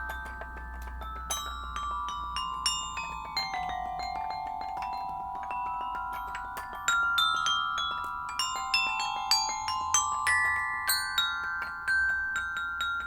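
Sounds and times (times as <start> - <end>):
toy glockenspiel notes: 0.0 - 13.0.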